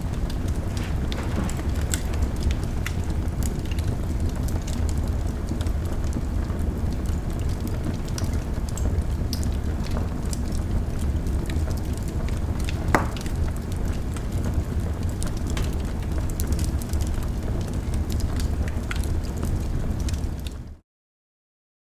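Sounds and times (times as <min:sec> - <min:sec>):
wood fire crackling: 0:00.0 - 0:20.8.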